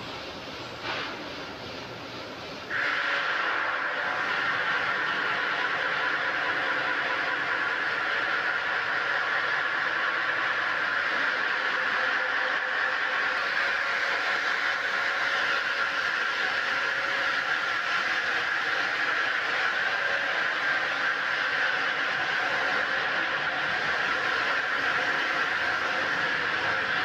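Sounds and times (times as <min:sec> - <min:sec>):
water spraying: 0:00.0 - 0:27.0.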